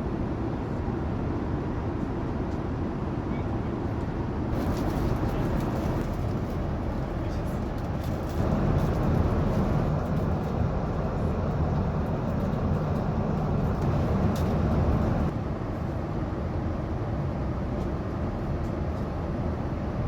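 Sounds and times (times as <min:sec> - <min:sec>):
airplane cabin noise: 0:00.0 - 0:20.0.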